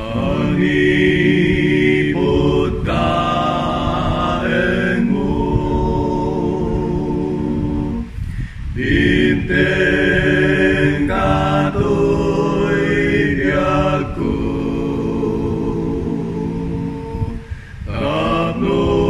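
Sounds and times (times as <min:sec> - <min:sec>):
man singing in harmony: 0:00.0 - 0:19.0.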